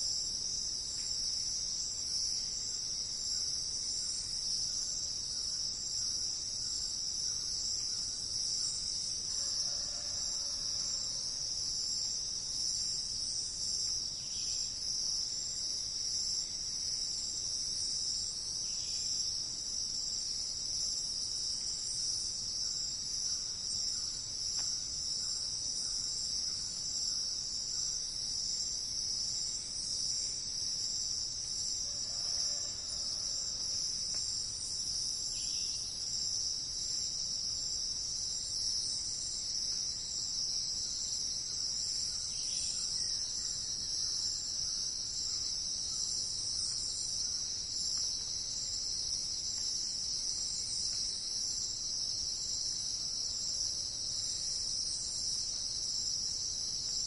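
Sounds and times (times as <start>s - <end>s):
insects chorus shrill drone: 0.0s - 19.4s, 20.1s - 57.0s.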